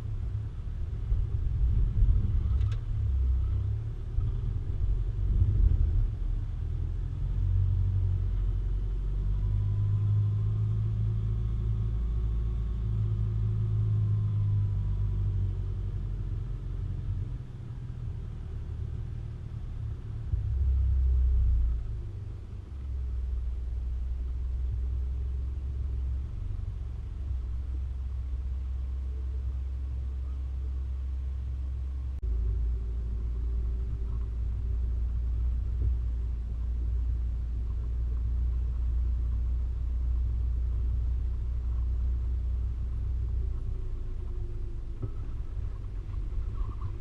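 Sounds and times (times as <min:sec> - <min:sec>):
vehicle rumble: 0:00.0 - 0:47.0.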